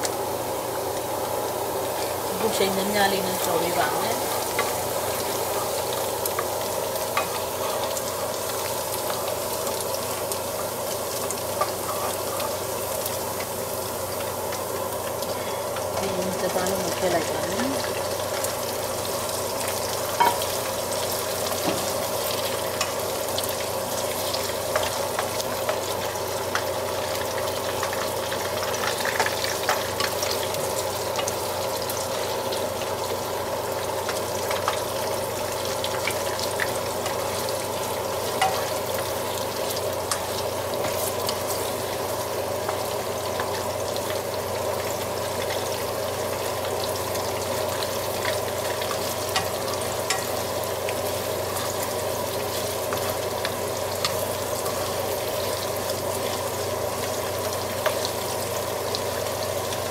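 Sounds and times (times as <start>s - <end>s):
meatballs sizzling in oil: 0.0s - 59.9s.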